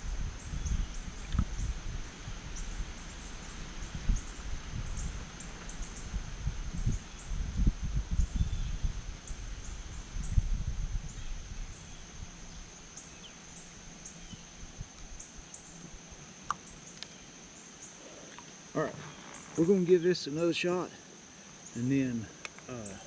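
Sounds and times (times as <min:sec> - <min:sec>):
high thin insect drone: 0:00.0 - 0:23.0
short insect chirps: 0:02.5 - 0:23.0.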